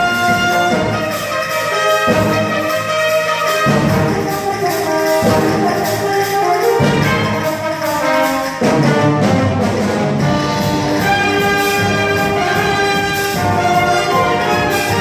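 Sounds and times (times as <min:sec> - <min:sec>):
wind band playing: 0:00.0 - 0:15.0.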